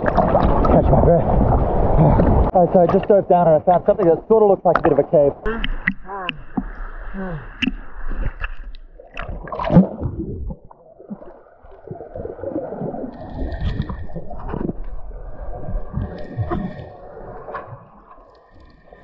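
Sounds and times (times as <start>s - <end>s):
snorkeler splashing: 0.0s - 19.0s
underwater rushing and gurgling: 0.0s - 19.0s.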